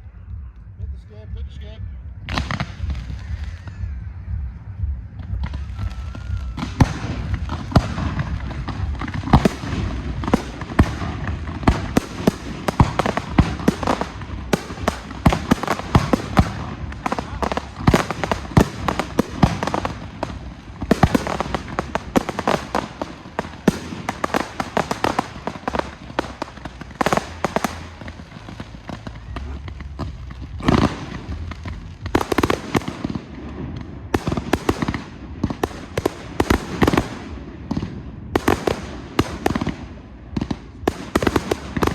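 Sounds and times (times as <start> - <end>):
fireworks bursting and crackling: 2.2 - 41.9.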